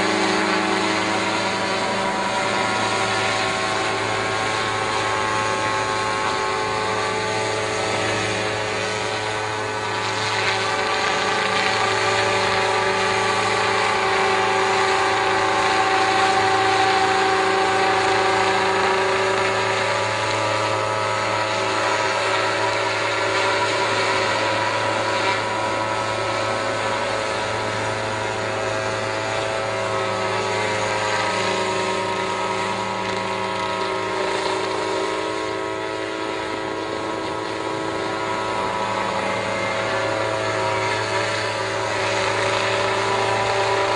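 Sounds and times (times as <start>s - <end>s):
small sprayer engine running: 0.0s - 43.9s.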